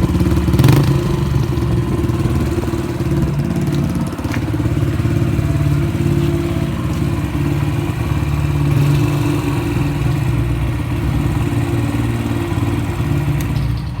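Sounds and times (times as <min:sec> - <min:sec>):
motorcycle exhaust echoing in tunnel: 0:00.0 - 0:14.0.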